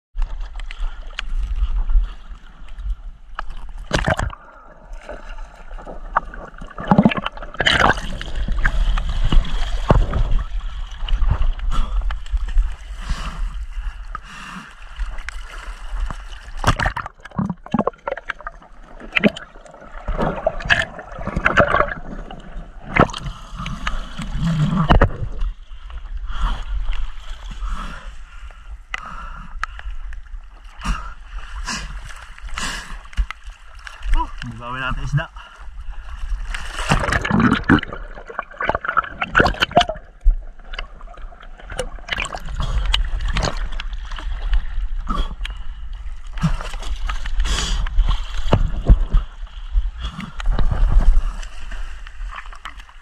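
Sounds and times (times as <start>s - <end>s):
seawater sloshing: 0.2s - 28.5s, 30.6s - 53.0s.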